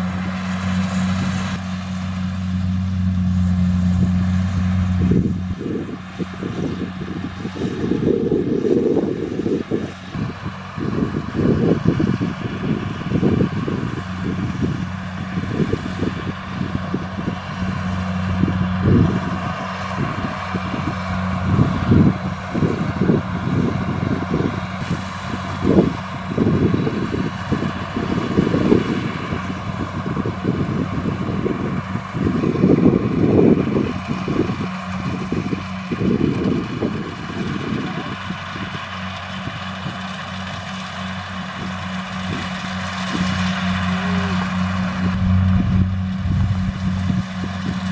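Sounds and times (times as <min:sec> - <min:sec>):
combine harvester engine hum: 0:00.0 - 0:47.9
threshing machinery drone: 0:00.0 - 0:47.9
wind buffeting microphone: 0:03.0 - 0:47.9.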